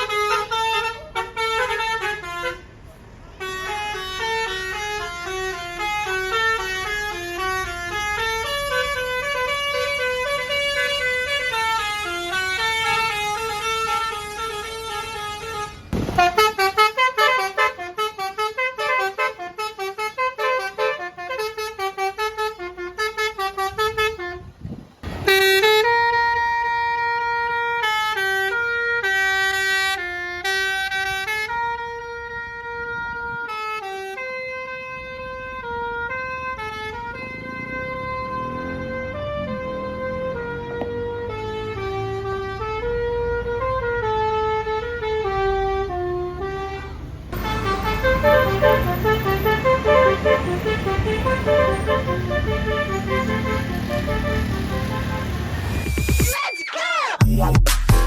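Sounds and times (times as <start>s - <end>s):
bus horn playing a tune: 0.0s - 56.0s.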